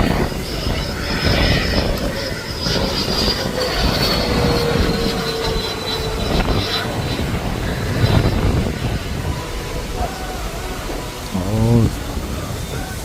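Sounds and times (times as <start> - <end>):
electric ducted fans whining: 0.0 - 13.0
wind rumble on microphone: 0.0 - 13.0.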